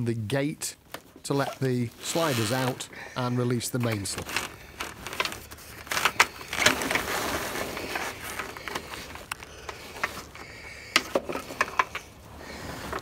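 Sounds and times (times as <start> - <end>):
sail cloth rustling: 0.8 - 10.6, 11.4 - 13.0.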